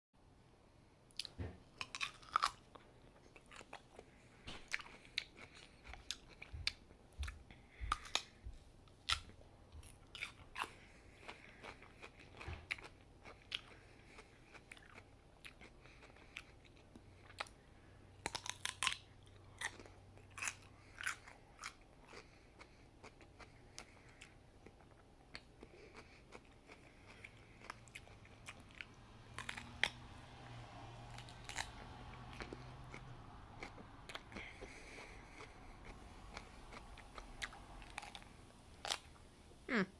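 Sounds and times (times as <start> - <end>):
crunching chews of raw cucumber: 1.1 - 17.6, 18.2 - 39.2.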